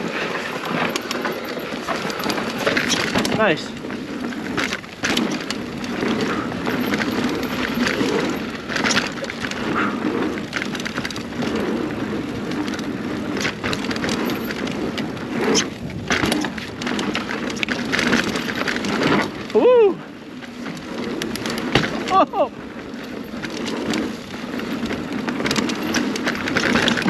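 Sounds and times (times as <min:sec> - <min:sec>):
bike knocking and rattling: 0:00.0 - 0:27.0
bike tyres on dirt: 0:00.0 - 0:27.0.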